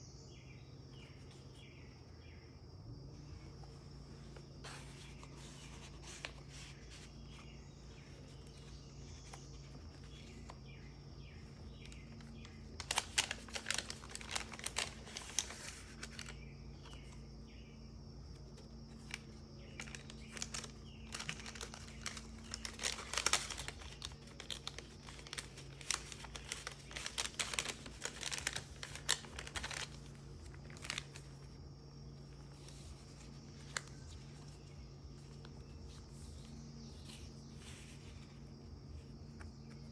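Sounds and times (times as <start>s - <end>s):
paper pages rustling: 3.3s - 17.4s, 18.2s - 39.9s.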